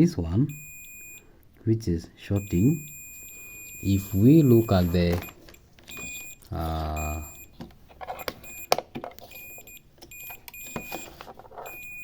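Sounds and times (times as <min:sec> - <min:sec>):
multimeter continuity beeping: 0:00.5 - 0:01.3, 0:02.3 - 0:07.6, 0:08.2 - 0:12.0.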